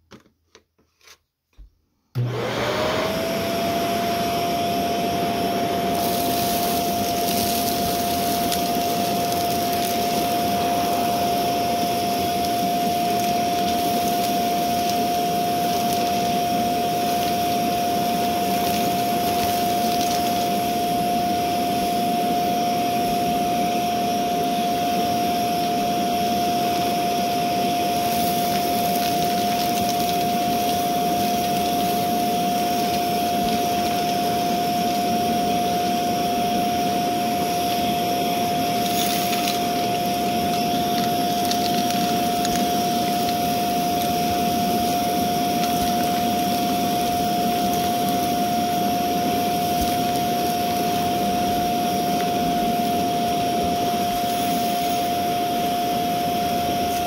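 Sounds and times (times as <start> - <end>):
vacuum cleaner motor whine: 2.1 - 57.0.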